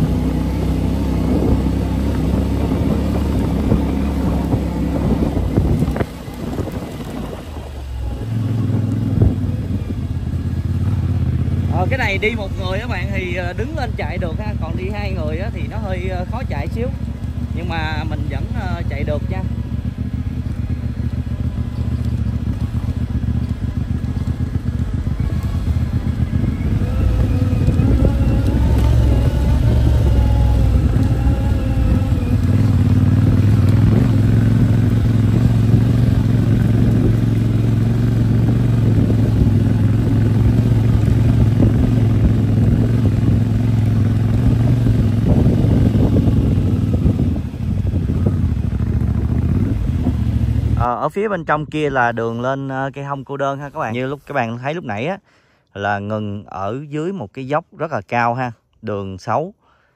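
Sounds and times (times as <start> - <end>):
motorcycle engine under load: 0.0 - 53.1.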